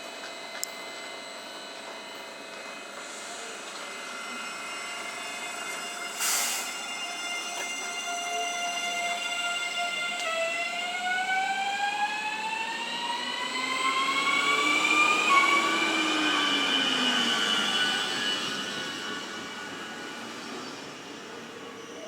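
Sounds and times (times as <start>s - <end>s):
electric train motors whining: 0.5s - 22.0s.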